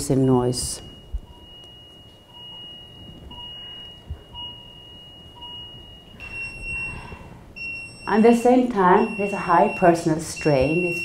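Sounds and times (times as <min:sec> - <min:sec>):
harsh alarm beeps: 0:00.0 - 0:11.0
high steady alarm tone: 0:00.0 - 0:11.0
low repeating beep: 0:00.0 - 0:11.0.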